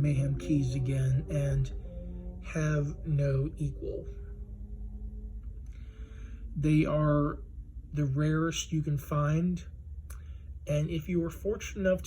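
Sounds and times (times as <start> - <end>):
faint steady tone: 0.0 - 12.0
low steady hum: 0.0 - 12.0.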